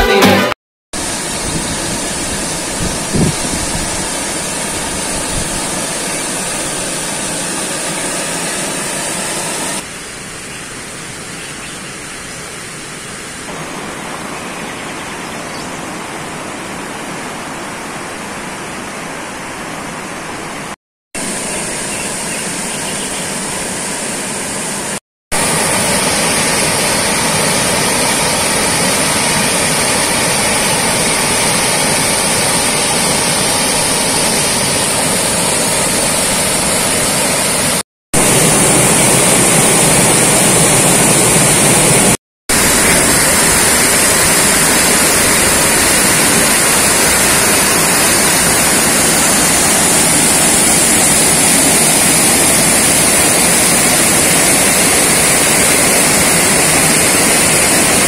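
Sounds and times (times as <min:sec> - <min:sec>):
waterfall rushing: 0:00.0 - 0:11.2, 0:12.2 - 0:58.0.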